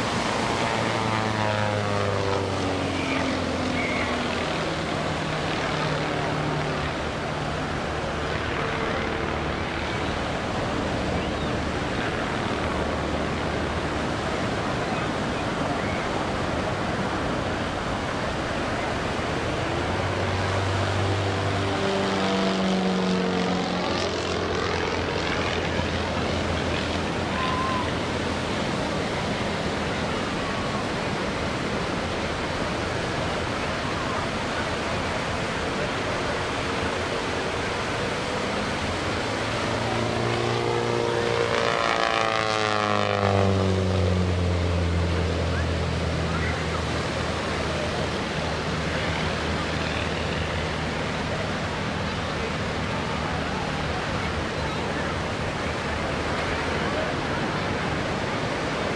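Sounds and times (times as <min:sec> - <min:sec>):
propeller plane engine buzzing: 0:00.0 - 0:58.9.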